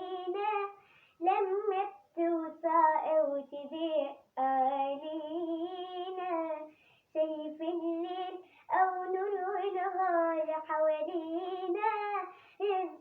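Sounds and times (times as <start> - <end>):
girl singing a hymn: 0.0 - 13.0.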